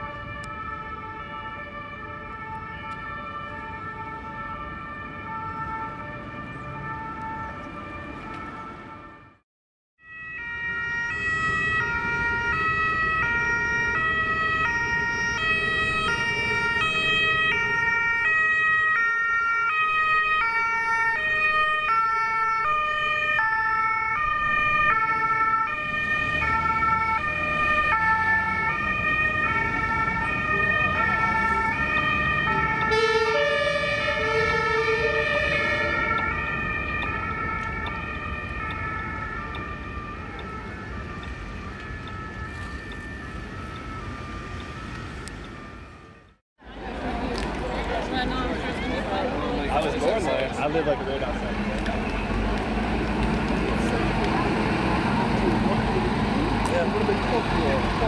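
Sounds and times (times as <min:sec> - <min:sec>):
street traffic rumble: 0:00.0 - 0:09.4, 0:10.0 - 0:58.0
two-tone emergency sirens: 0:00.0 - 0:09.4, 0:10.0 - 0:46.4, 0:48.2 - 0:58.0.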